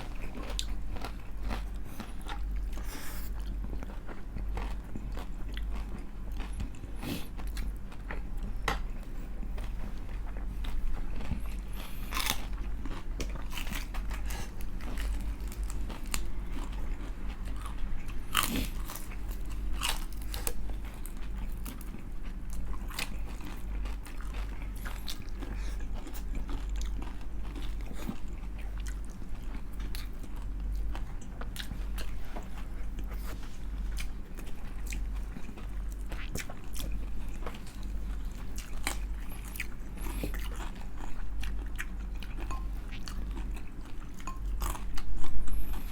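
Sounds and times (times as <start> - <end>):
crunchy chewing: 0.0 - 45.9
steady low hum: 0.0 - 45.9.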